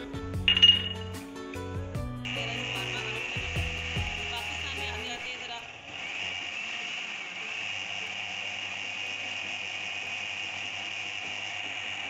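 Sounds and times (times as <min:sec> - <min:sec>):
blender running: 0:02.3 - 0:12.0.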